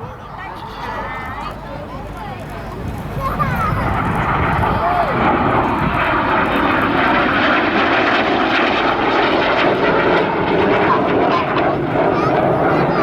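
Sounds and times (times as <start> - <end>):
jets flying low: 0.0 - 13.0.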